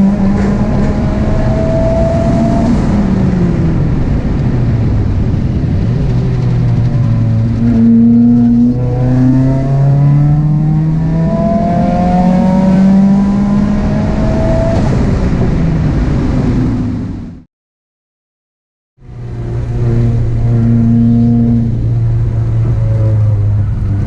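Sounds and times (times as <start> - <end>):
car engine accelerating: 0.0 - 17.2, 19.0 - 24.0.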